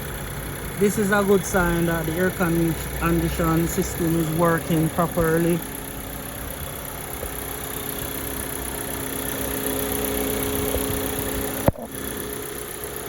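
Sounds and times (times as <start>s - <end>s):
car engine idling hum: 0.0s - 13.0s.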